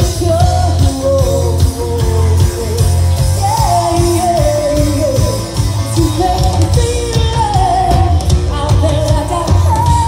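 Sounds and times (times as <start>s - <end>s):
drum kit beat: 0.0s - 10.0s
electric guitar: 0.0s - 10.0s
heavy bass: 0.0s - 10.0s
woman singing lead: 0.0s - 10.0s.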